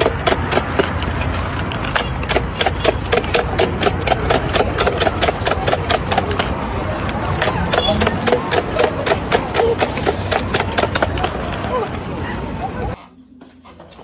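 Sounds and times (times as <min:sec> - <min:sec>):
skateboard wheels clicking on cracks: 0:00.0 - 0:13.0.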